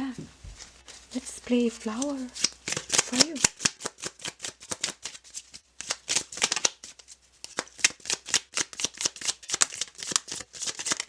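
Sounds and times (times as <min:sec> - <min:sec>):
cards being shuffled: 0:00.3 - 0:11.0.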